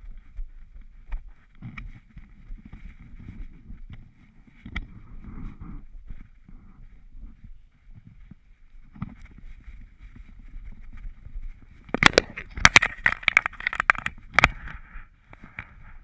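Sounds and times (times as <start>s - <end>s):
grass rustling: 0.0s - 15.8s.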